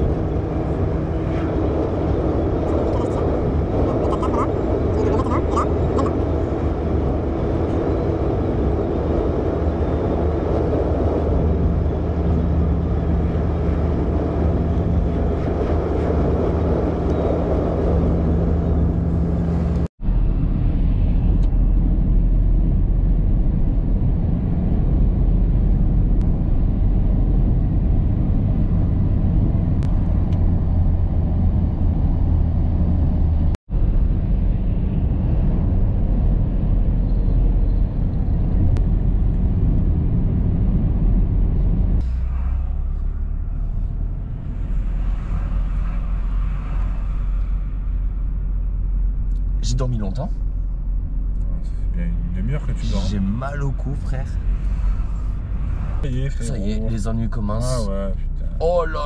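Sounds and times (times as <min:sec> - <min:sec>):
car cabin engine and road noise: 0:00.0 - 0:59.0.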